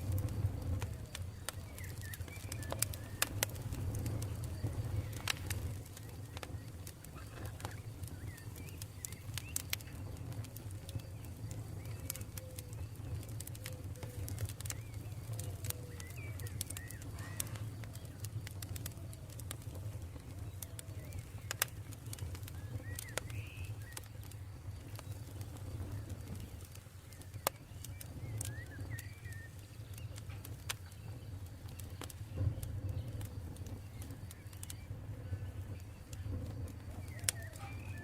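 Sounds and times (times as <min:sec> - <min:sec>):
birds calling faintly: 0:00.0 - 0:38.0
campfire crackling: 0:00.0 - 0:38.0.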